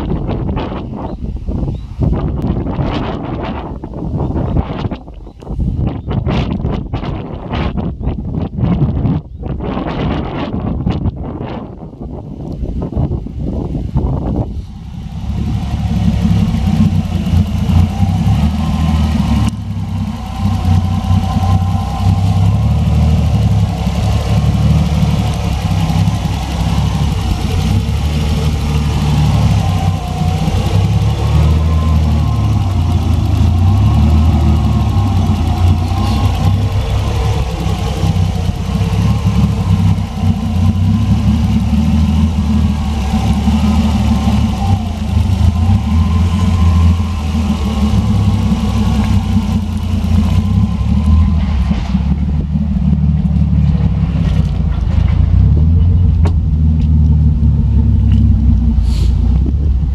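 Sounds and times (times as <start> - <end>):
car engine idling: 10.8 - 59.9.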